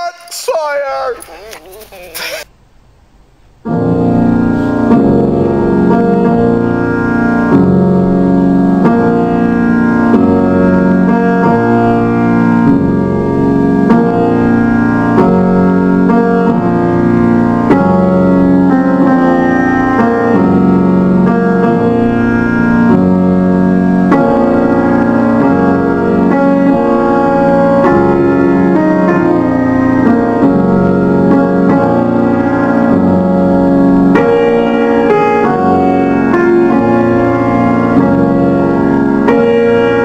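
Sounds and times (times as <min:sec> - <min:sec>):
slow sustained chords music: 0:03.7 - 0:40.0.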